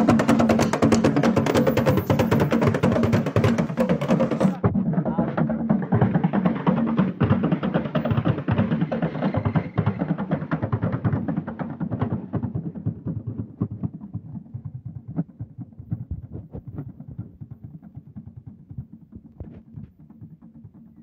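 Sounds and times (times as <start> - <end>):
drums beating quickly: 0.0 - 21.0.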